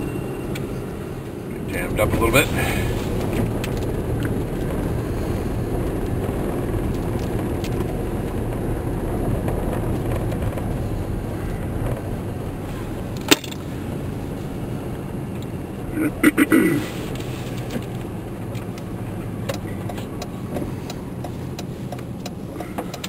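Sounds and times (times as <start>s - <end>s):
engine and tyres rumbling: 0.0s - 23.0s.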